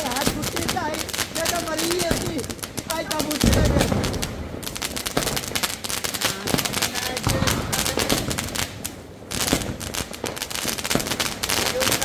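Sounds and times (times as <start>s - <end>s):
firecrackers cracking: 0.0s - 12.0s.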